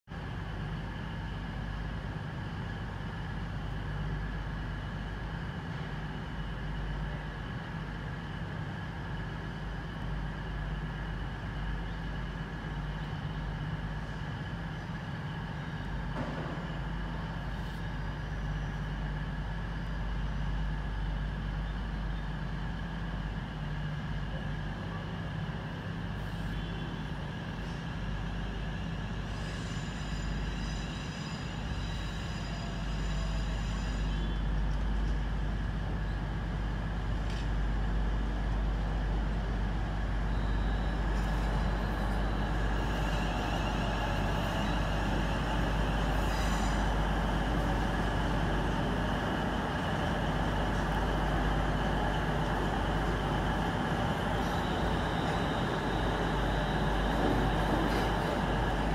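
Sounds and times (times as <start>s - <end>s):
train rumble and hum: 0.0s - 58.9s
train high whining: 0.2s - 58.9s.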